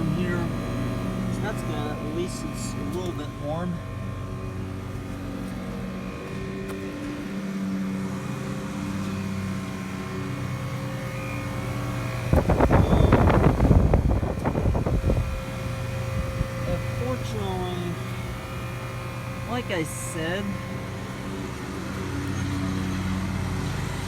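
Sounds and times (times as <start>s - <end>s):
air conditioner humming: 0.0s - 24.0s
lawnmower engine running: 0.0s - 24.0s
loud rough rumble: 0.0s - 24.0s.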